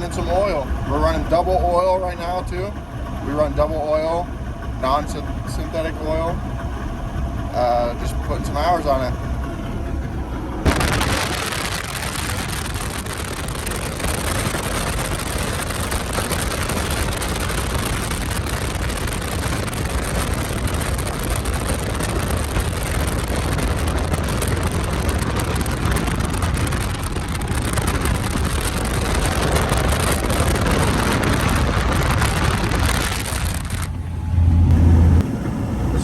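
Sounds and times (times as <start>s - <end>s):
boat engine running: 0.0s - 36.0s
wind and water rush: 0.0s - 36.0s.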